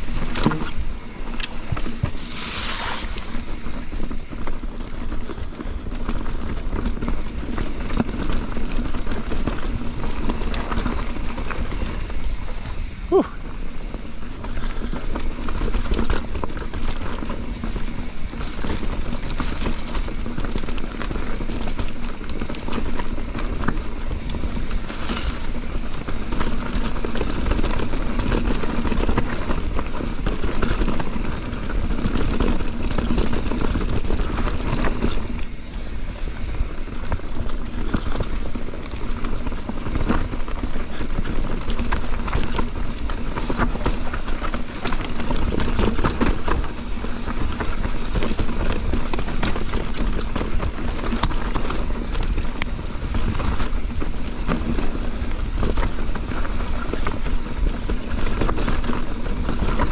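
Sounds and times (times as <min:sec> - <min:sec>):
bike rattling: 0:00.0 - 0:59.9
tyres rumbling over ground: 0:00.0 - 0:59.9.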